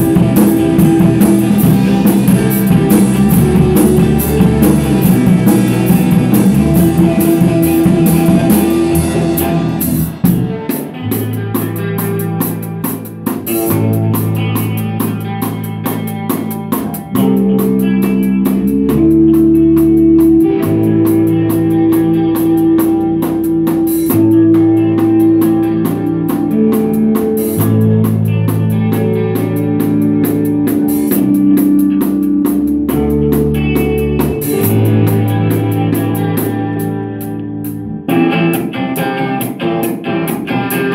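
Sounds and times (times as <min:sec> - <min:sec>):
long held electric guitar notes: 0:00.0 - 0:40.9
rock band playing: 0:00.0 - 0:40.9.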